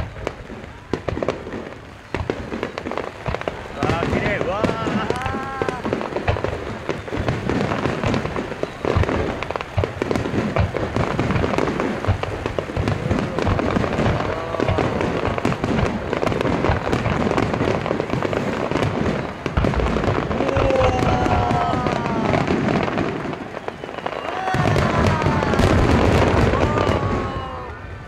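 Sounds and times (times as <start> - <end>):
fireworks bangs and crackle: 0.0 - 28.0.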